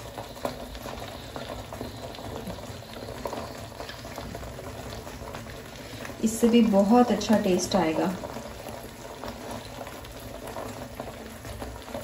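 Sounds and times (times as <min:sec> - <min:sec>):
halwa bubbling in a frying pan: 0:00.0 - 0:12.0.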